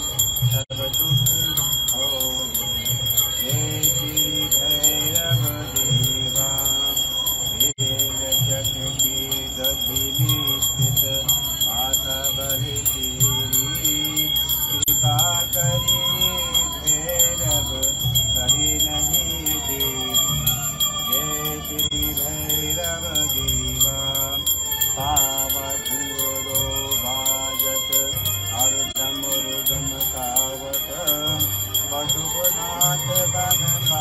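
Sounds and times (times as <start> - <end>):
hand bell ringing: 0.0 - 34.0.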